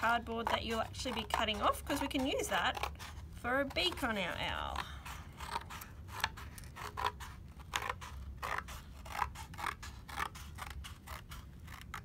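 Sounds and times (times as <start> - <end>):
scissors cutting cardboard: 0.0 - 12.0.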